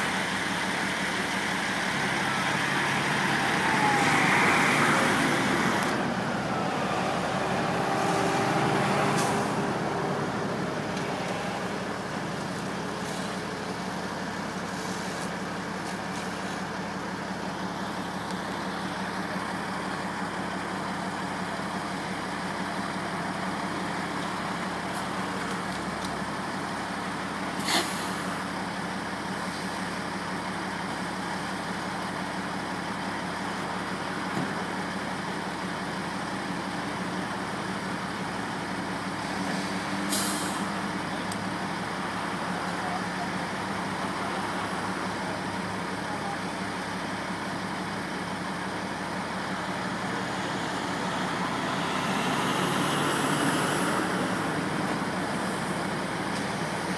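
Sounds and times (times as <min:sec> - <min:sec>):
highway traffic passing: 0:00.0 - 0:27.6, 0:32.3 - 0:56.9
diesel truck engines idling: 0:00.0 - 0:56.9.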